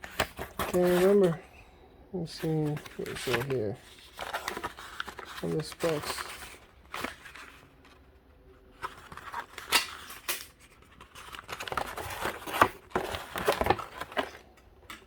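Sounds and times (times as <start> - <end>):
packaging rustling and clicking: 0.0 - 1.4, 2.4 - 8.1, 8.7 - 15.0.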